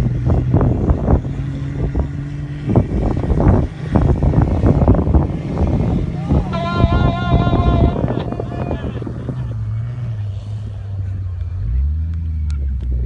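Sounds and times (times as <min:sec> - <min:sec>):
off-road vehicle engine hum: 0:00.0 - 0:13.0.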